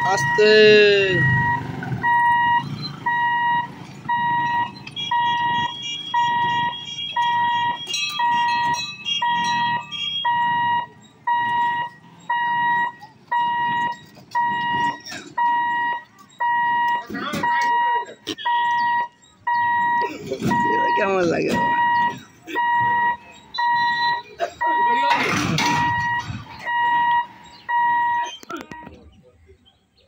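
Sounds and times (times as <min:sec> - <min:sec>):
level-crossing warning buzzer beeping: 0:00.0 - 0:29.0.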